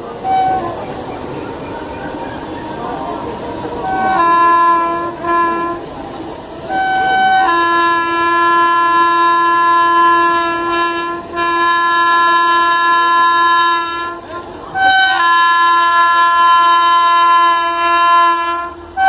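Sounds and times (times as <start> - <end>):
train horn honking: 0.0 - 1.1, 3.6 - 6.0, 6.6 - 19.0
train running noise: 0.0 - 19.0.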